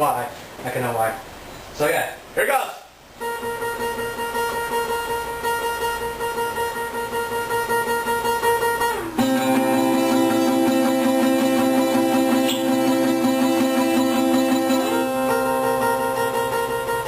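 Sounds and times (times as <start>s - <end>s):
guitar strumming: 3.2s - 17.0s.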